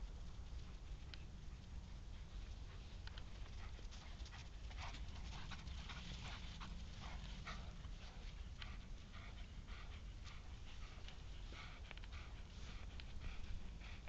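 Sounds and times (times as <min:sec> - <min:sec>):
dogs panting faintly: 0:00.0 - 0:14.0.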